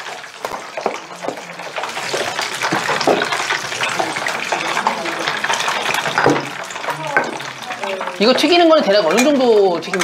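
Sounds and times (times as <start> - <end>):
deep-frying sizzle in hot oil: 0.0 - 10.0.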